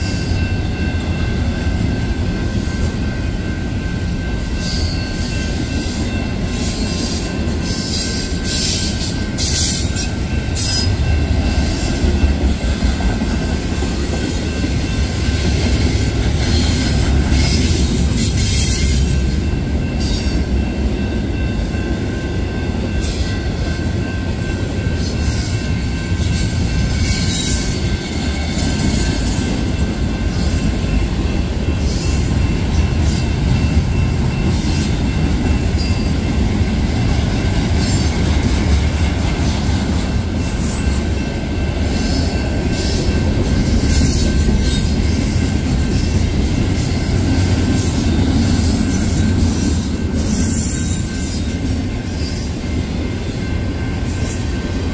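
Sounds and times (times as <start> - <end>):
train cars clattering: 0.0 - 54.9
train wheels rumbling on rail: 0.0 - 54.9.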